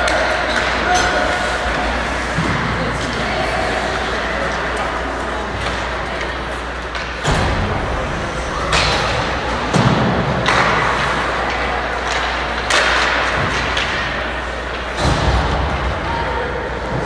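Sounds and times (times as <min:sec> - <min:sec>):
hockey stick and puck thuds: 0:00.0 - 0:03.2, 0:04.6 - 0:15.9.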